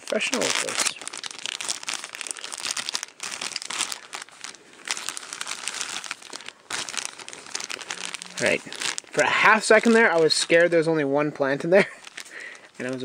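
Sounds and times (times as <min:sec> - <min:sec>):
plastic bag crinkling: 0:00.0 - 0:11.0, 0:11.8 - 0:13.0.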